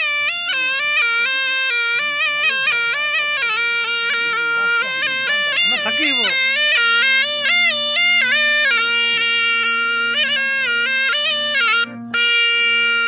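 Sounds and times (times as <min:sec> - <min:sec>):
shawm playing a melody: 0:00.0 - 0:13.0.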